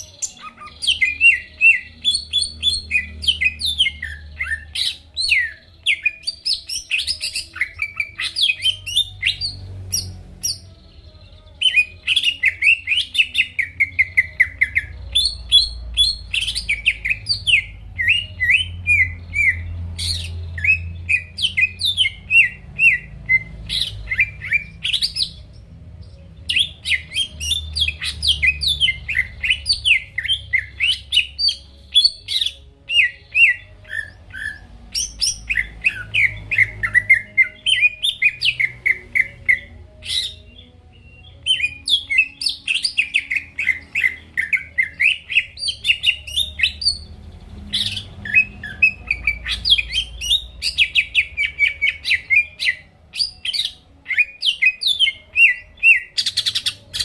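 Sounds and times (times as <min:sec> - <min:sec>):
bird singing chirps and trills: 0:00.0 - 0:57.0.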